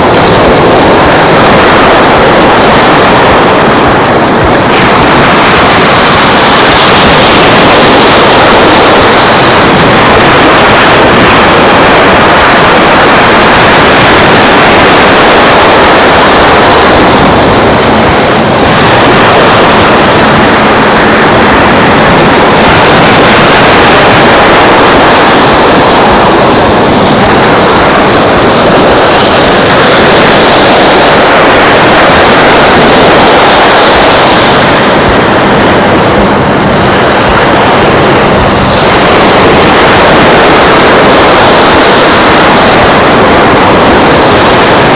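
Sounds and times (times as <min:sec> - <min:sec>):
surf washing: 0:00.0 - 0:44.9
wind: 0:00.0 - 0:44.9.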